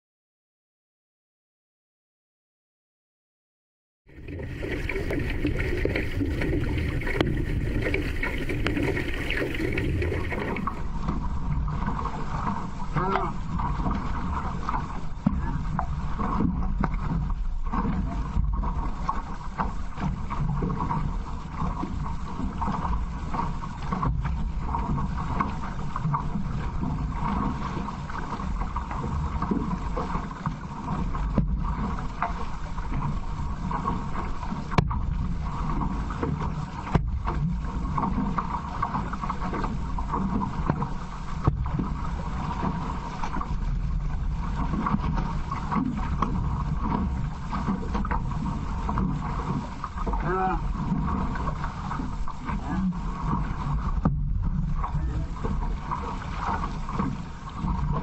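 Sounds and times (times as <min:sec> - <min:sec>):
water rushing along canoe hull: 0:04.1 - 0:58.0
wind rumble on microphone: 0:04.1 - 0:58.0.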